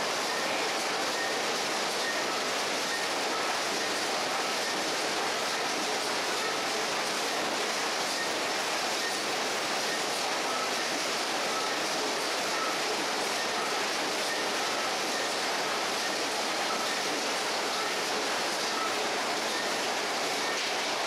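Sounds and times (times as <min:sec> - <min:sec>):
production line machinery running: 0:00.0 - 0:21.0.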